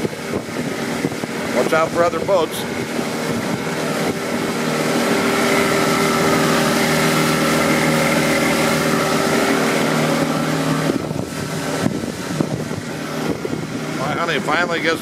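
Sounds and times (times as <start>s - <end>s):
churning water: 0.0s - 15.0s
outboard motor hum: 0.0s - 15.0s
wind rushing: 0.0s - 15.0s.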